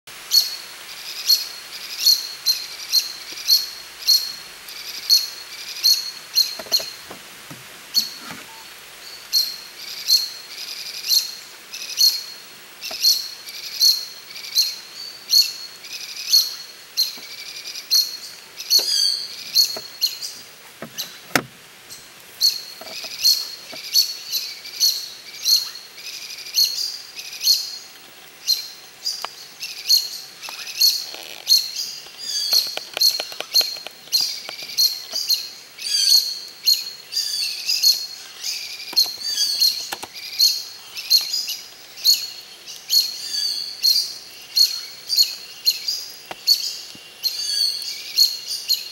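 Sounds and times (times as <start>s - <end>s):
songbird chirping: 0.3s - 48.9s.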